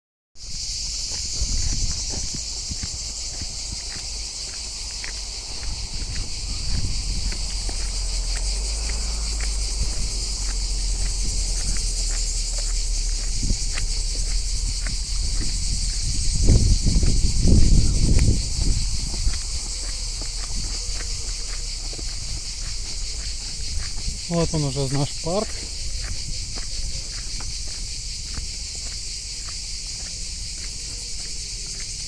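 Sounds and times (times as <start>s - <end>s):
footsteps on a trail: 0.4s - 32.0s
insects chirring: 0.4s - 32.0s.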